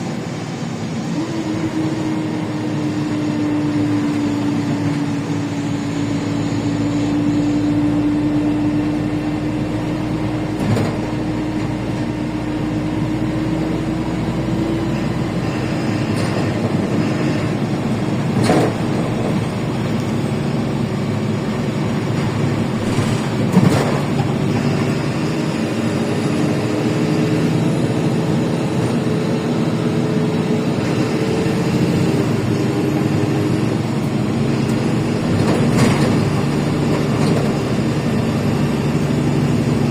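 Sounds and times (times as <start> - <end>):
bus engine and road noise: 0.0 - 39.9
rising whine: 0.0 - 39.9.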